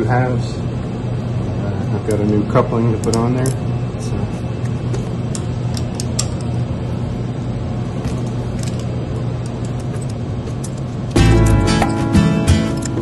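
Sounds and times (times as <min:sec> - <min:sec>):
mechanical room hum: 0:00.0 - 0:13.0.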